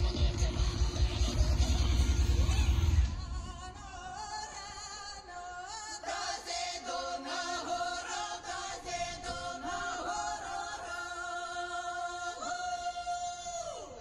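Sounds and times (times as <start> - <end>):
voices singing in harmony: 0.0 - 14.0.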